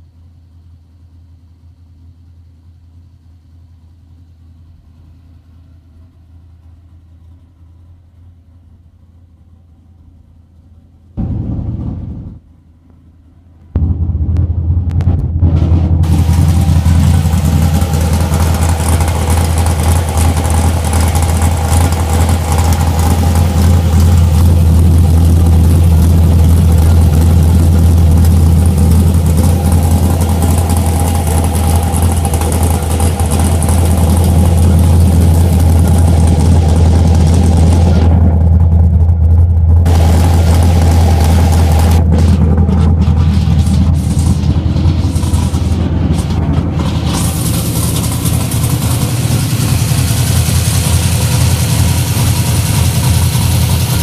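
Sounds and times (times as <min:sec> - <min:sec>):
engine idling roughly: 0:00.0 - 0:12.6, 0:13.8 - 0:54.0.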